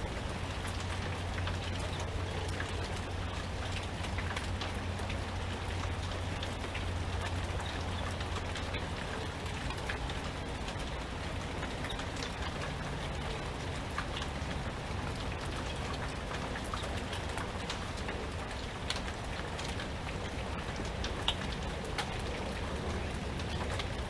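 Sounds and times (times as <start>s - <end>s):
raindrops ticking on surfaces: 0.0s - 24.0s
steady rain falling: 0.0s - 24.0s.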